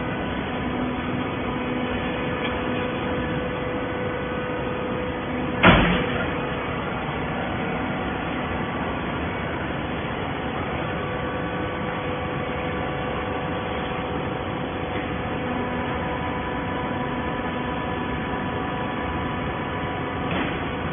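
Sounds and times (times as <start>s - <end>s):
baler mechanical hum: 0.0s - 20.9s.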